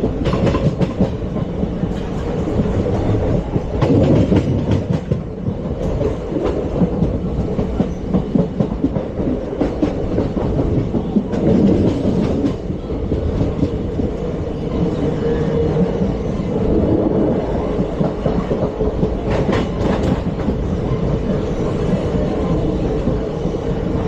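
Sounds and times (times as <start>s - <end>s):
train wheels clattering on rails: 0.0s - 24.0s.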